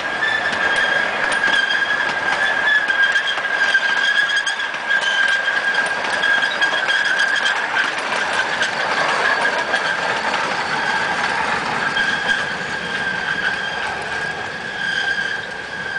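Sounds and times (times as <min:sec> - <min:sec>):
train wheel squeal: 0:00.0 - 0:15.9
wheels clicking on track: 0:00.0 - 0:15.9.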